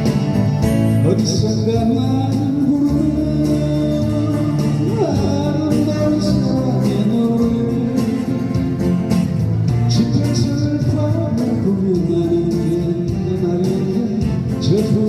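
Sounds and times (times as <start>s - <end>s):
acoustic guitar: 0.0s - 15.0s
live band music: 0.0s - 15.0s
steady beat: 0.0s - 15.0s.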